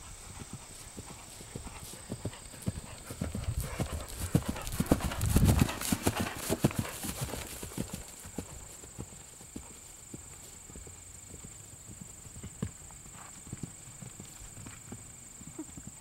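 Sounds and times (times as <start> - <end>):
horse hoofbeats on grass: 0.0 - 16.0.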